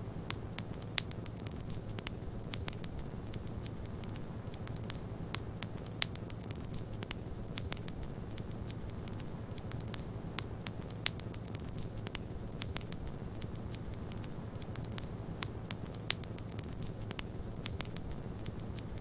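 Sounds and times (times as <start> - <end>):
fire low rumble: 0.0 - 19.0
wood fire popping: 0.2 - 19.0.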